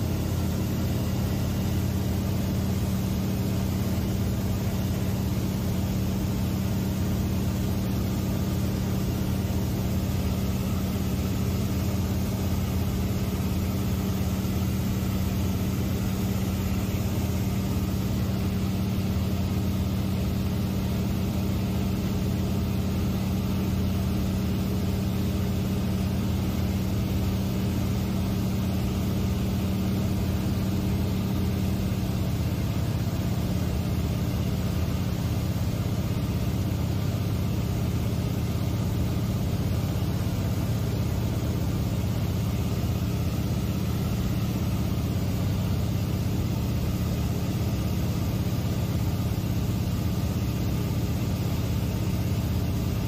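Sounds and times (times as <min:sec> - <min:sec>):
seaplane engine and propeller droning: 0:00.0 - 0:53.0.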